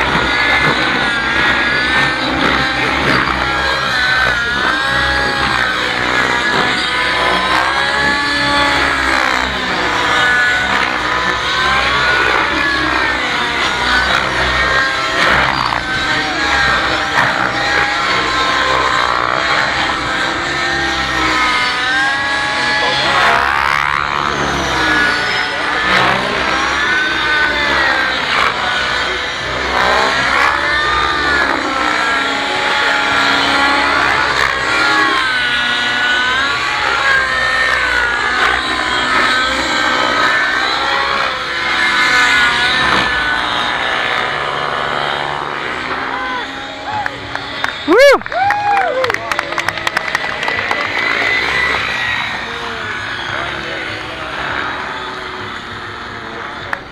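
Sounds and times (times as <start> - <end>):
model helicopter rotors whining: 0.0 - 56.9.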